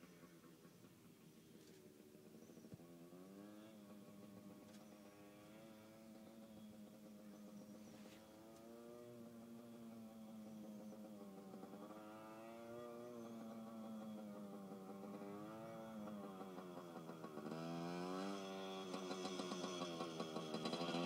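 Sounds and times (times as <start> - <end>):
distant dirt bike riding: 0.0 - 21.0.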